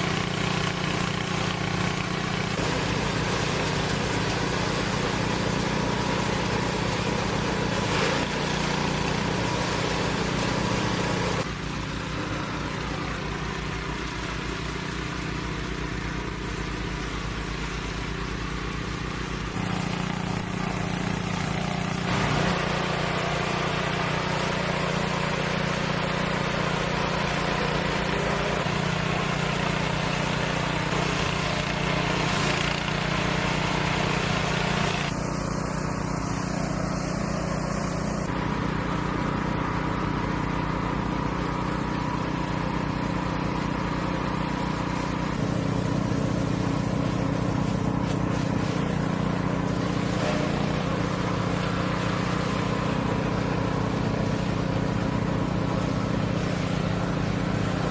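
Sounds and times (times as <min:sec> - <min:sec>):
motor engine running: 0:00.0 - 0:57.9.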